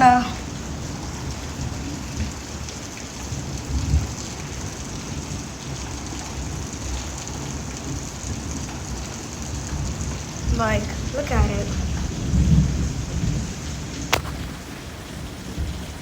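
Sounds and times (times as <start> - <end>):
rain and hail pattering: 0.0 - 16.0.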